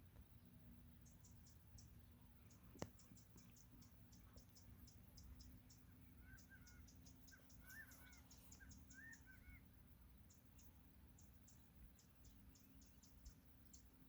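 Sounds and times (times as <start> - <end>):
crickets chirping: 0.0 - 14.0
faint low hum: 0.0 - 14.0
bird call notes: 1.0 - 13.9.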